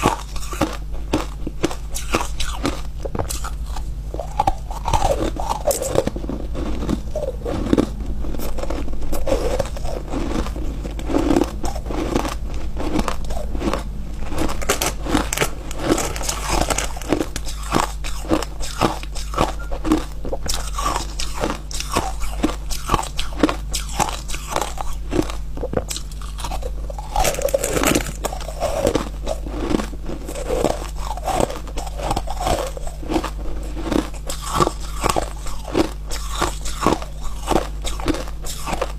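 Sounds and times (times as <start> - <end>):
chewing ice crunches: 0.0 - 38.9
steady low hum: 0.0 - 38.9.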